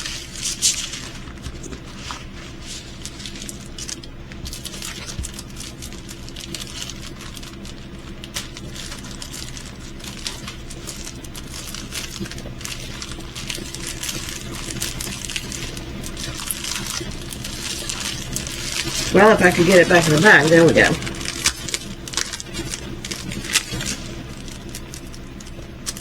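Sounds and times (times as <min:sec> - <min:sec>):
plastic packaging crinkling: 0:00.0 - 0:26.0
steady low hum: 0:00.0 - 0:26.0.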